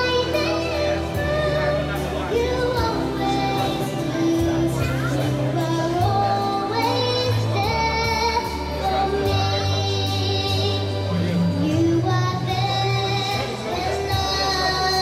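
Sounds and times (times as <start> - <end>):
girl singing into a microphone: 0.0 - 15.0.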